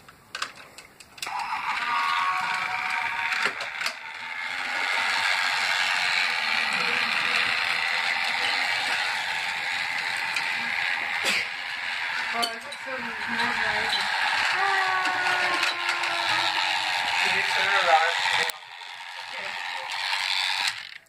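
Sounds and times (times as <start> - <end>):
toy train motor whirring: 0.7 - 21.0.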